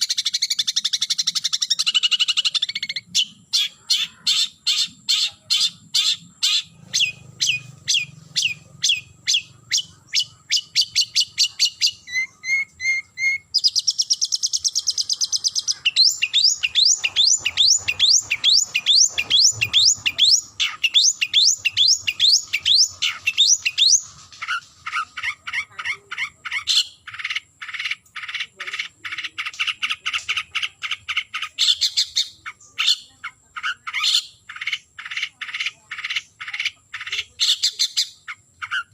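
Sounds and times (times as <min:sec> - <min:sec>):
shrike harsh repeated calls: 0:00.0 - 0:38.9.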